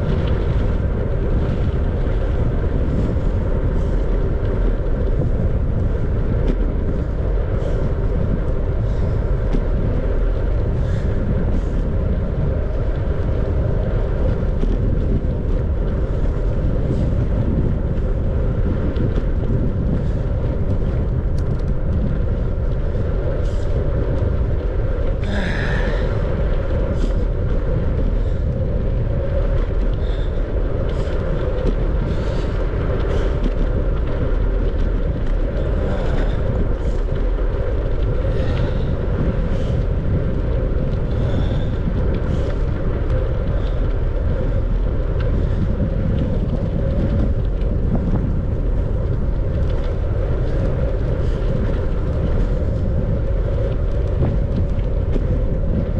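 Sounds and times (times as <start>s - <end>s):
bicycle tyre noise: 0.0s - 55.9s
wind on microphone: 0.0s - 55.9s.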